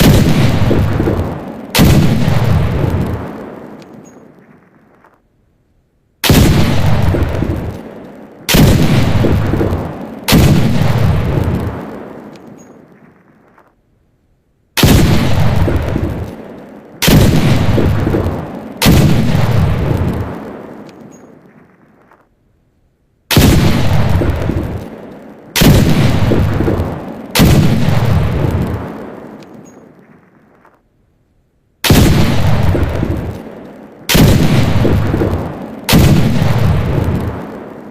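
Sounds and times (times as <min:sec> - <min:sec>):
gunshot rumble: 0:00.0 - 0:05.1, 0:06.2 - 0:13.6, 0:14.8 - 0:22.2, 0:23.3 - 0:25.0, 0:25.6 - 0:30.8, 0:31.8 - 0:37.9
flintlock pistol shots: 0:00.0 - 0:05.2, 0:06.2 - 0:13.7, 0:14.8 - 0:22.2, 0:23.3 - 0:30.8, 0:31.8 - 0:37.9.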